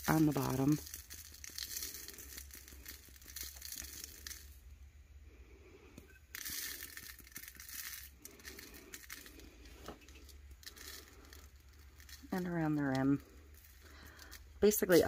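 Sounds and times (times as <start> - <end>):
glitter pattering onto paper: 0.0 - 4.6, 6.3 - 15.0.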